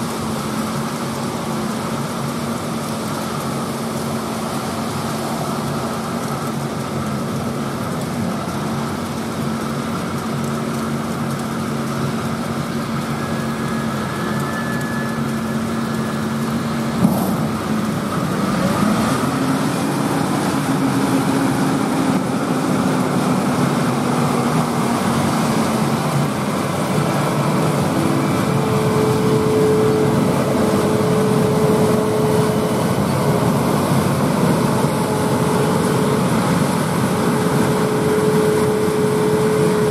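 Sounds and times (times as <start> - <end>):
harvesting machines running: 0.0 - 39.9
tractor diesel engines running: 0.0 - 39.9.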